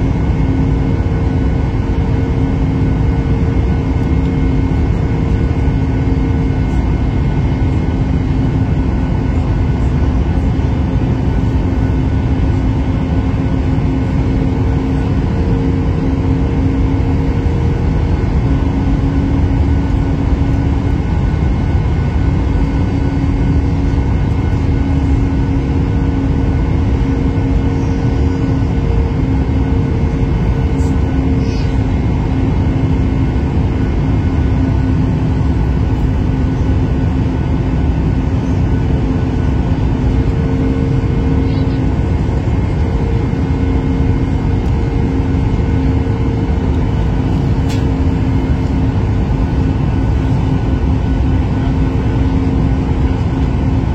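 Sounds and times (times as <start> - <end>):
airliner cabin noise: 0.0 - 53.9
steady low hum: 0.0 - 53.9.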